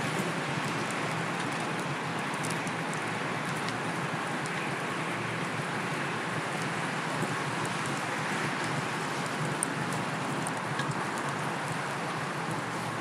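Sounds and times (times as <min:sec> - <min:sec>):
bicycle tyre noise: 0:00.0 - 0:13.0.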